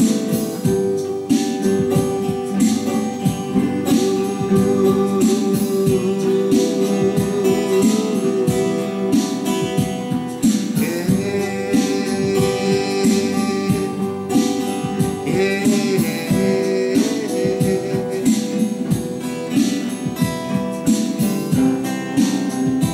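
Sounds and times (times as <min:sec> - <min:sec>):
acoustic guitar strummed and picked: 0:00.0 - 0:22.9
person singing: 0:00.0 - 0:22.9.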